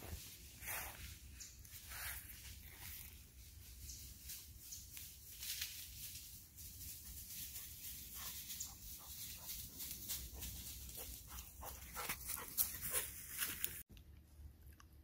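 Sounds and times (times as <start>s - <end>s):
rustling in dry leaves: 0.0s - 13.9s.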